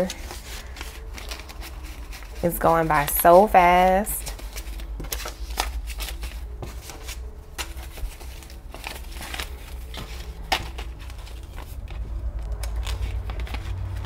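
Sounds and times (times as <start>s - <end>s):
paper banknotes rustling: 0.0s - 14.0s.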